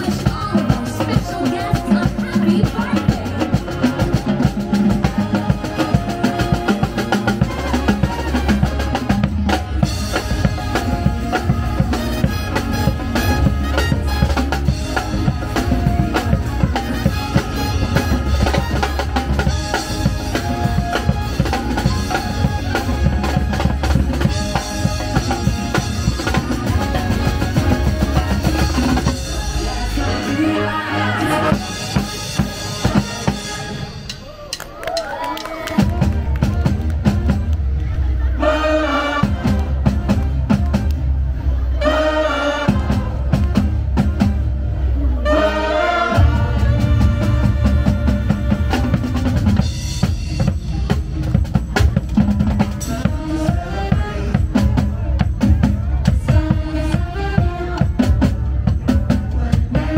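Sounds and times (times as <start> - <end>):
upbeat music with drums and bass: 0.0 - 41.3, 41.9 - 44.6, 46.1 - 59.9.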